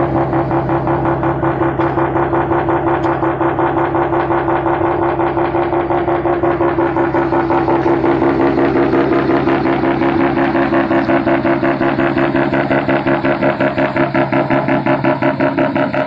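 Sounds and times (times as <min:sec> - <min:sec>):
rotary engine running steadily: 0:00.0 - 0:16.0.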